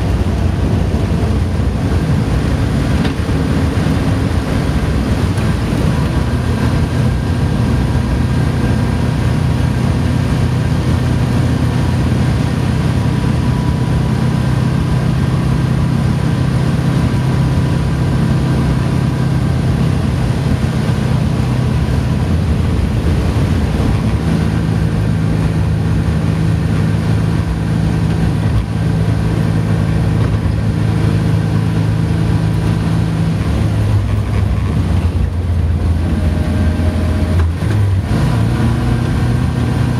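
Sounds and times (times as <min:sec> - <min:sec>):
car engine pulling: 0:00.0 - 0:39.9
road and wind noise: 0:00.0 - 0:39.9.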